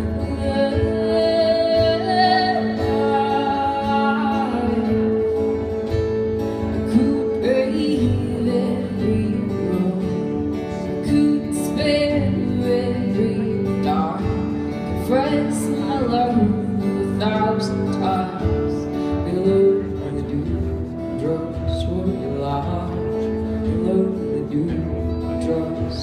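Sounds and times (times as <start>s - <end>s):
guitar accompaniment: 0.0s - 26.0s
woman singing: 0.0s - 26.0s.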